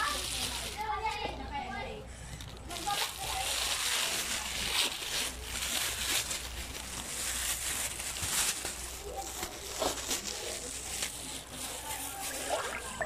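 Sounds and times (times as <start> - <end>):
plastic bag crinkling: 0.0 - 1.6, 2.3 - 13.0.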